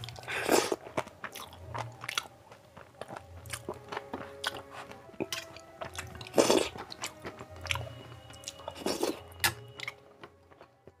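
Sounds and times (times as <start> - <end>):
chewing and wet mouth sounds: 0.0 - 11.0.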